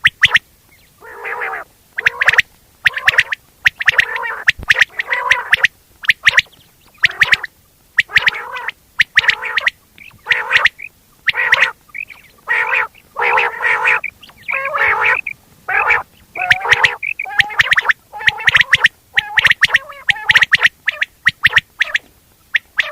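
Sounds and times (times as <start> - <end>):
quail calling: 0.0 - 22.9.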